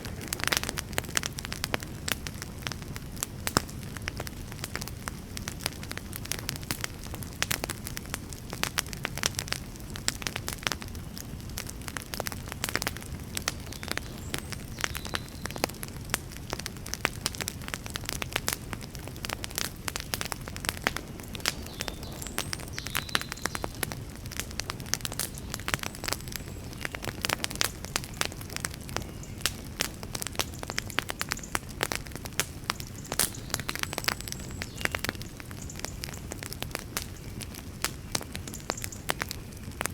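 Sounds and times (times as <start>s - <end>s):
burning logs crackling and popping: 0.0s - 39.9s
low rumble of flames: 0.0s - 39.9s.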